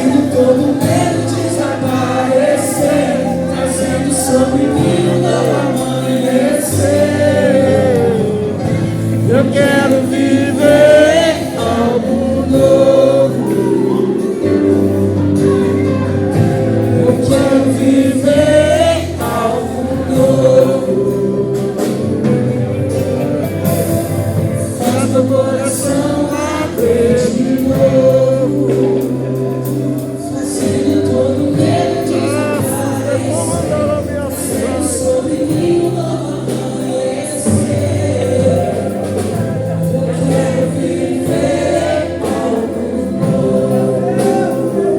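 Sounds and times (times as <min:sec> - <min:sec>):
choir singing with vibrato: 0:00.0 - 0:44.9
instrumental backing with bass: 0:00.0 - 0:44.9.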